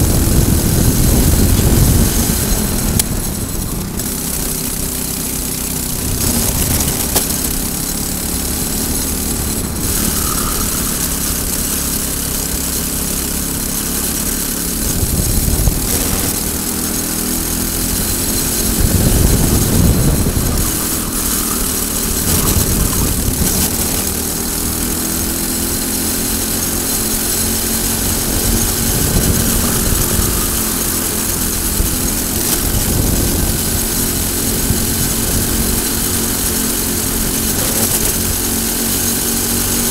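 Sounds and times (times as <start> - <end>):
kart engine revving: 0.0 - 39.9
wind hiss: 0.0 - 39.9.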